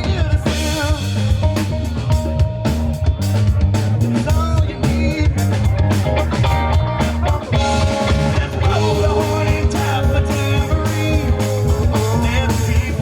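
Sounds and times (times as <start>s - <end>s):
bass guitar: 0.0s - 13.0s
drum kit steady beat: 0.0s - 13.0s
electric guitar lines: 0.0s - 13.0s.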